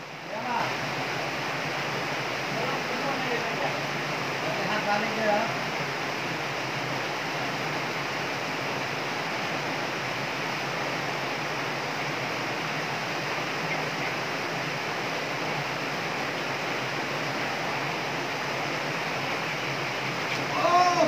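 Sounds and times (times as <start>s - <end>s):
water rushing over weir: 0.0s - 21.0s.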